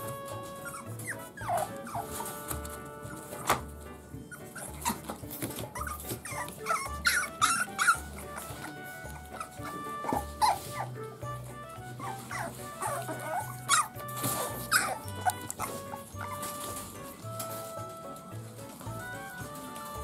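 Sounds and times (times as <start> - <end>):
puppy whining and whimpering: 0.0 - 3.6, 4.2 - 18.0
background music with bass: 0.0 - 20.0.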